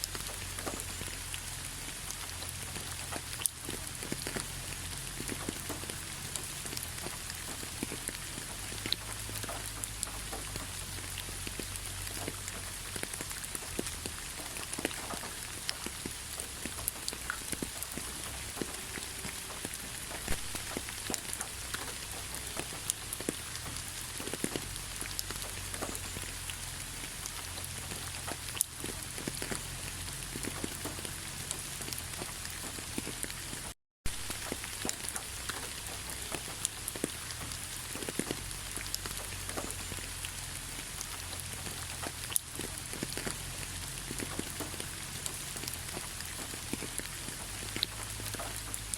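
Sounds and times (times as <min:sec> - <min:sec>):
raindrops pattering: 0:00.0 - 0:48.9
steady rain hiss: 0:00.0 - 0:48.9.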